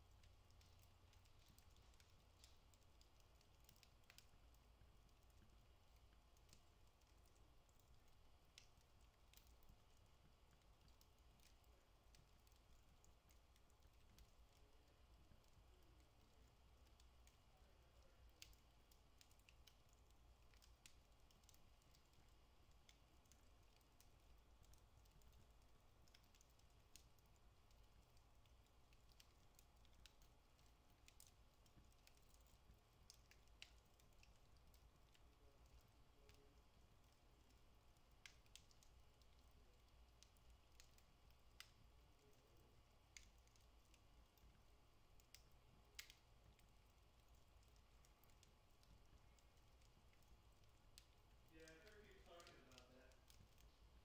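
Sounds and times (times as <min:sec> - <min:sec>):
low steady hum: 0:00.0 - 0:54.0
wood fire crackling: 0:00.0 - 0:54.0.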